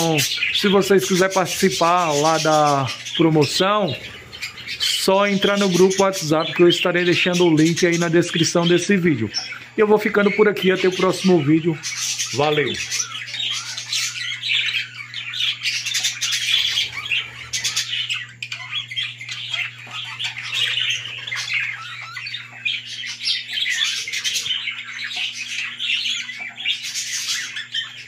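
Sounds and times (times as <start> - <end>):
budgerigars chattering and squawking: 0.0 - 28.0
steady low hum: 0.0 - 28.0.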